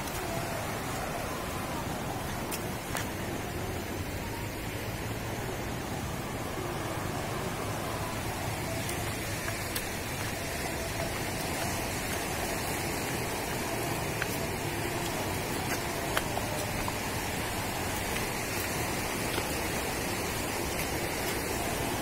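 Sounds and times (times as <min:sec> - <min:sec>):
light drizzle: 0:00.0 - 0:22.0
sea waves washing on rocks: 0:00.0 - 0:22.0.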